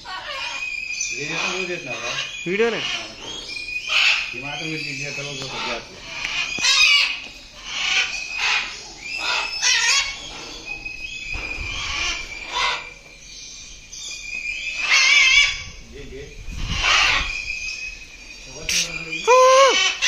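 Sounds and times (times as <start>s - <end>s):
birds calling loudly: 0.0s - 20.0s.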